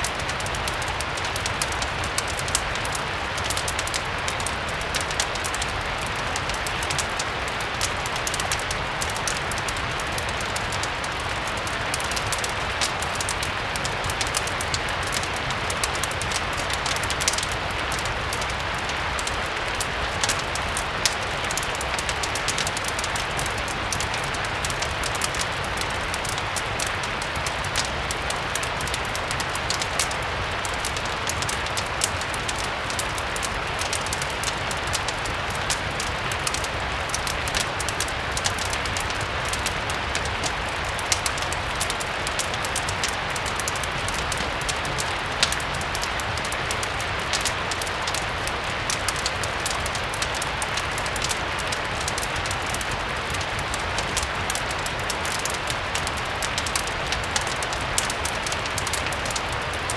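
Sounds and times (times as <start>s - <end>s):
fireplace crackling: 0.0s - 59.9s
steady rain: 0.0s - 59.9s.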